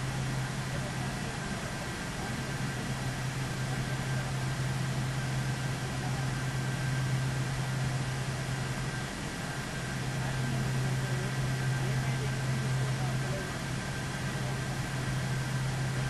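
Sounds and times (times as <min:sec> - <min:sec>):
fan-like rushing noise: 0:00.0 - 0:16.0
machine hum: 0:00.0 - 0:16.0.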